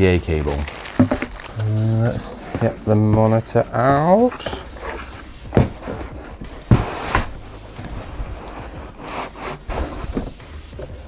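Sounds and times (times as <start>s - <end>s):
cardboard scraping and rustling: 0.3s - 11.0s.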